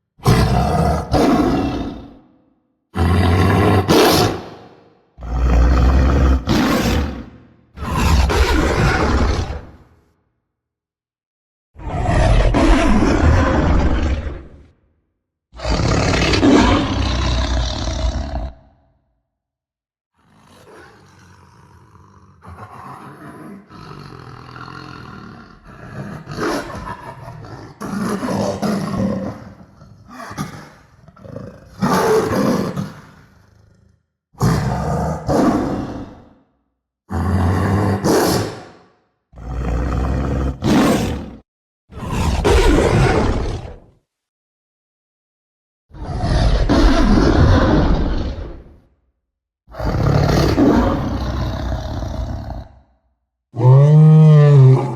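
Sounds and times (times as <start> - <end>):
lion roaring: 0.2 - 2.3, 3.0 - 10.0, 11.8 - 14.7, 15.6 - 19.0, 20.2 - 36.4, 37.1 - 38.8, 39.4 - 43.9, 45.9 - 48.9, 49.7 - 52.9, 53.6 - 54.9.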